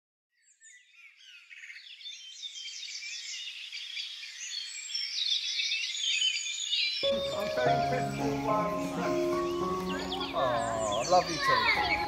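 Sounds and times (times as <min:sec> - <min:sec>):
birds chirping and trilling: 0:00.3 - 0:12.0.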